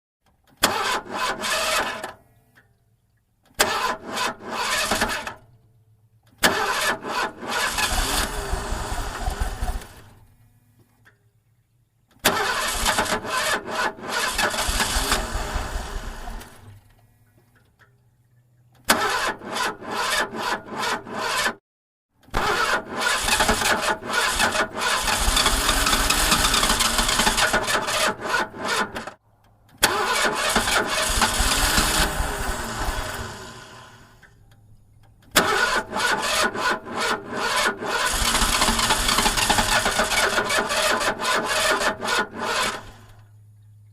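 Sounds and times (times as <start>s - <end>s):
car engine cranking: 0.4s - 2.6s, 3.5s - 5.5s, 6.2s - 10.4s, 12.2s - 17.6s, 18.7s - 21.6s, 22.2s - 43.4s.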